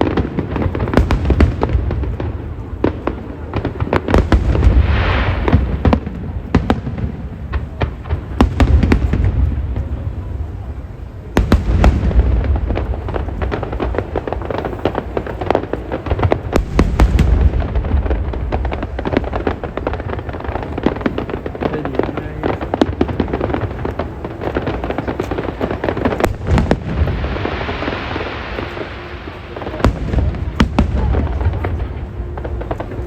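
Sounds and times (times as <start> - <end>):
fireworks booming: 0.0 - 33.0
fireworks crackling: 0.0 - 33.0.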